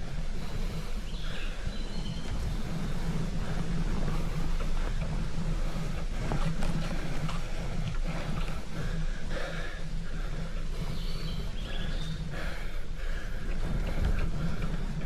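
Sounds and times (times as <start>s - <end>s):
wind and riding noise: 0.0s - 15.0s.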